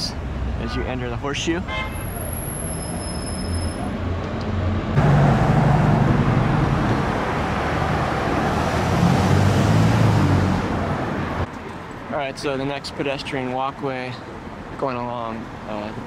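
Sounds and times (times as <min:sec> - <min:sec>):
rumble of passing cars: 0:00.0 - 0:16.0.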